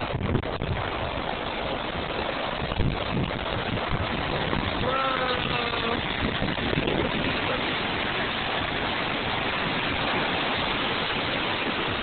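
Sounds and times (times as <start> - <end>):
floodwater splashing from car tyres: 0.0 - 12.0.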